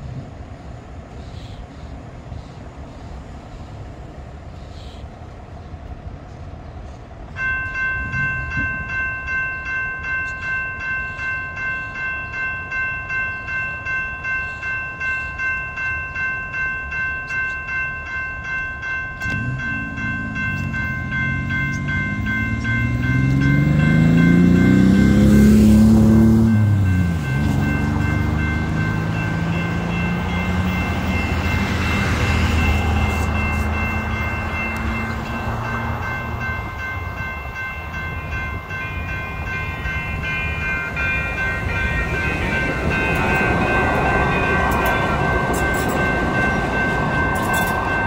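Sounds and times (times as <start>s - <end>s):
light rail train whine: 0.0s - 48.0s
light road traffic: 0.0s - 48.0s
railroad crossing bell ringing: 5.2s - 48.0s.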